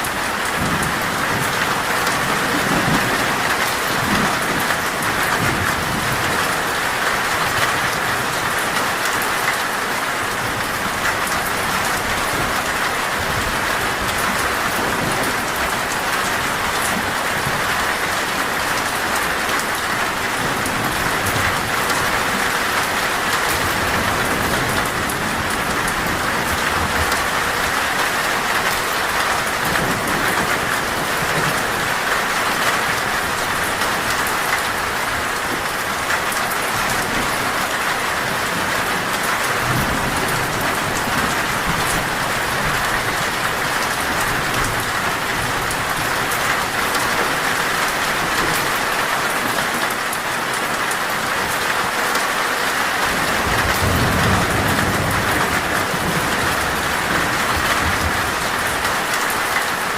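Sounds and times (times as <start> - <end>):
torrential rain on a metal roof: 0.0 - 59.9.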